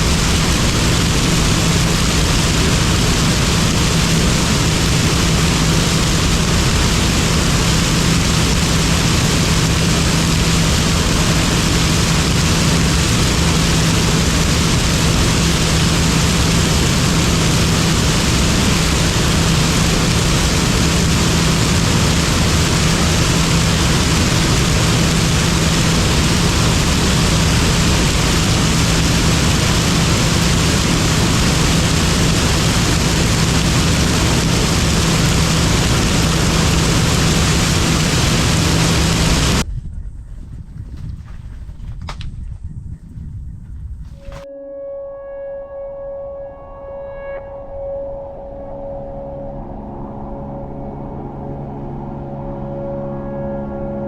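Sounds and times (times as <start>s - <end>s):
combine harvester diesel drone: 0.0s - 39.6s, 44.3s - 54.0s.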